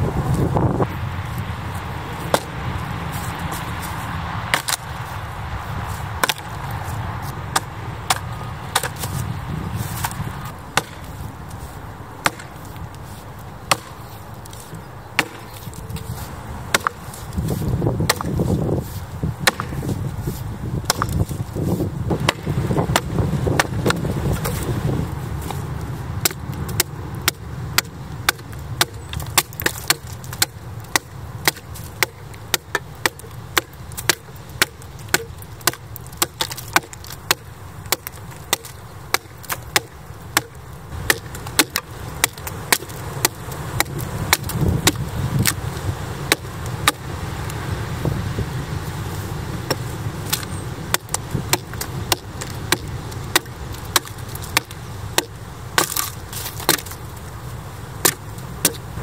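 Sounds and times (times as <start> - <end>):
axe chopping wood: 2.2 - 2.6, 3.2 - 5.1, 5.8 - 11.6, 12.2 - 47.8, 49.6 - 57.2, 58.0 - 59.0.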